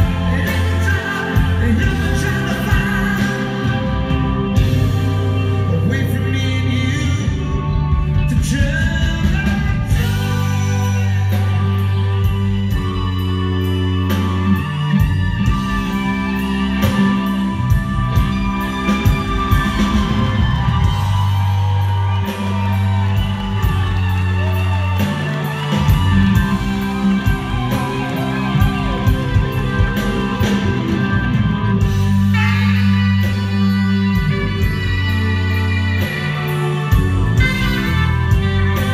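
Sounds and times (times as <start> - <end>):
steady drum beat: 0.0 - 6.4, 7.2 - 38.9
bass notes: 0.0 - 38.9
electric guitar: 0.0 - 38.9
keyboards: 0.0 - 38.9.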